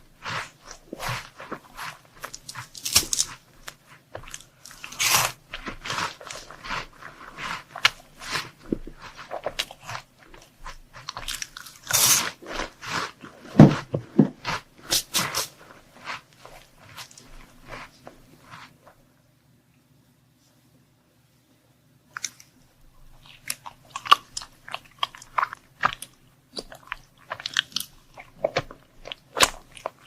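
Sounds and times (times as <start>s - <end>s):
chewing crunchy chocolate sweets: 0.0s - 19.0s, 22.1s - 30.0s.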